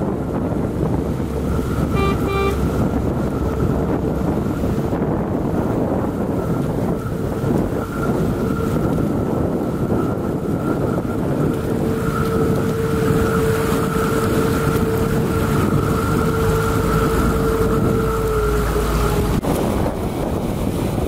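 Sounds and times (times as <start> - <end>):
boat motor whine: 0.0 - 21.0
water rushing from boat wake: 0.0 - 21.0
wind buffeting microphone: 0.0 - 21.0.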